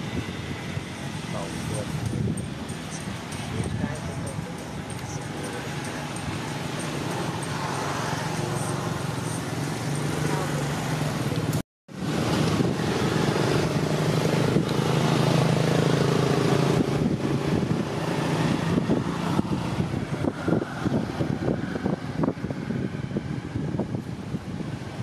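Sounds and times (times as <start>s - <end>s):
motor engine running: 0.0s - 23.7s
wind noise on microphone: 0.0s - 25.0s.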